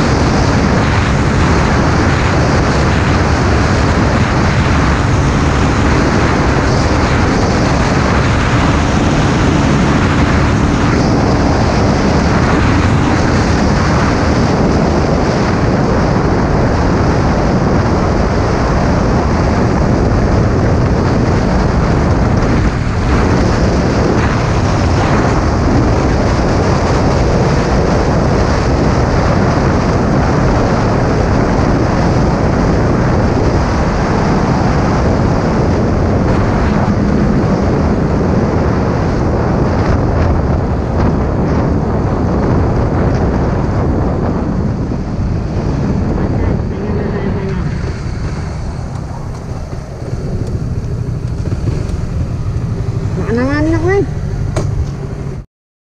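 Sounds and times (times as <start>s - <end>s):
motorcycle engine at high speed: 0.0s - 55.4s
wind rush on microphone: 0.0s - 55.4s.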